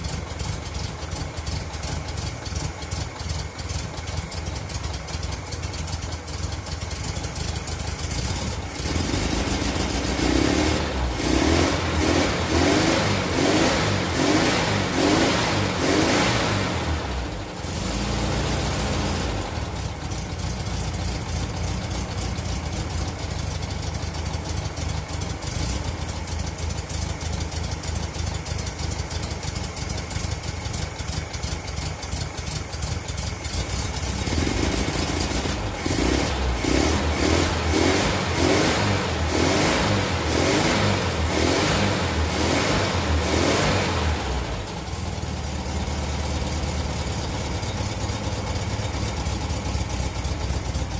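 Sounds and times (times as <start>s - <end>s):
engine idling and revving: 0.0s - 50.9s.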